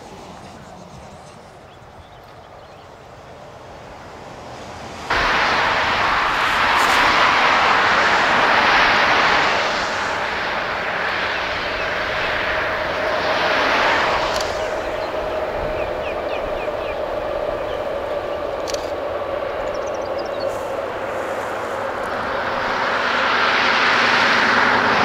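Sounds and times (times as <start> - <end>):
steady train hum: 0.0 - 25.0
train wheels rushing on rail: 0.0 - 25.0.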